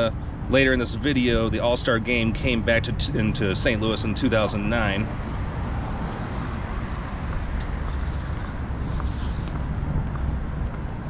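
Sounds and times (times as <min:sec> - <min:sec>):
low engine hum: 0:00.0 - 0:11.0
street traffic rumble: 0:00.0 - 0:11.0.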